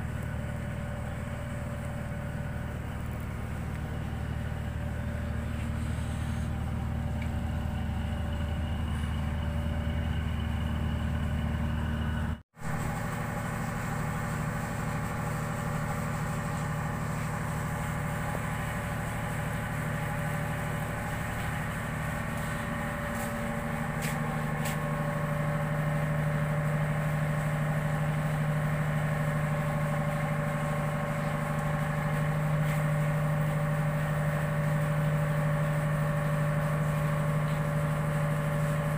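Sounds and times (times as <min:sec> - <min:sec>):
ship engine humming: 0:00.0 - 0:38.9.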